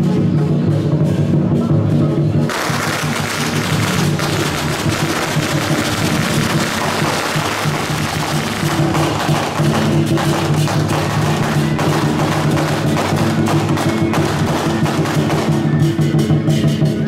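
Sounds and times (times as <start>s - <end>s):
rapid drum strikes: 2.4s - 17.0s.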